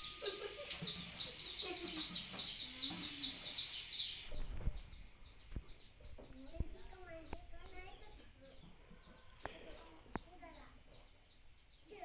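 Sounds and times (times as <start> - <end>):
chickens clucking: 0.0 - 12.0
chicks chirping: 0.0 - 12.0.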